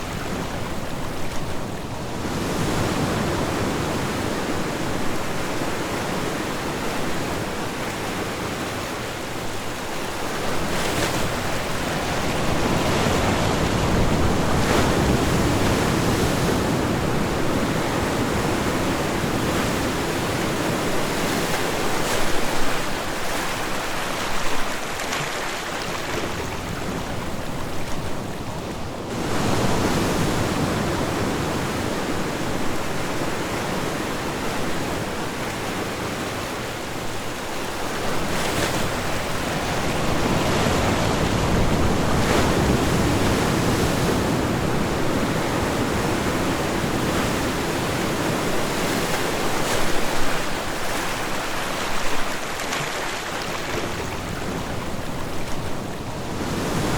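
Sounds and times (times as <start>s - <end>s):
ocean waves washing onto shore: 0.0s - 56.9s.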